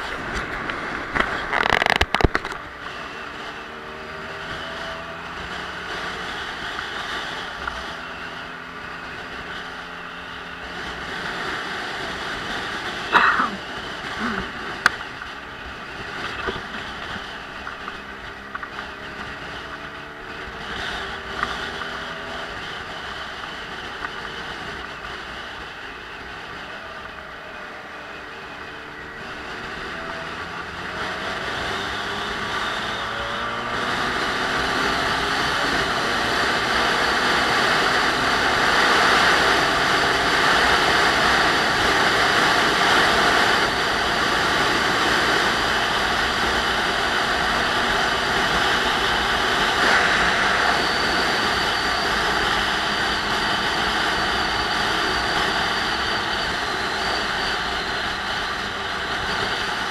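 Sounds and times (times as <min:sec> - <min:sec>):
motorcycle engine: 0:00.0 - 0:59.9
wind rushing over microphone: 0:00.0 - 0:59.9.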